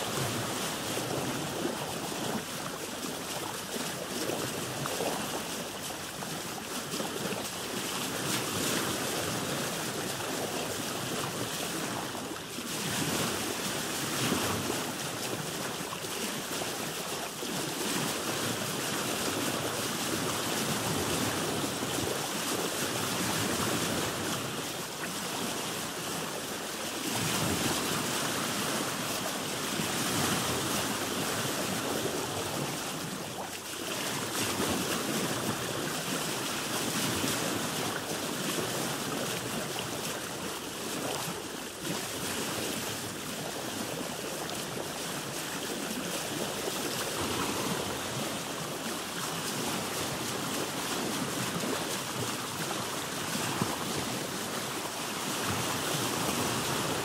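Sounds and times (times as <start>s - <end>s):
sea waves washing against boat: 0.0s - 57.0s.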